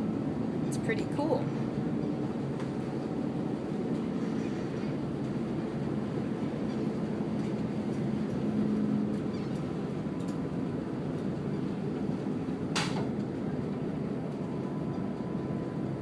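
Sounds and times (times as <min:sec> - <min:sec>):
ferry engines droning: 0:00.0 - 0:16.0.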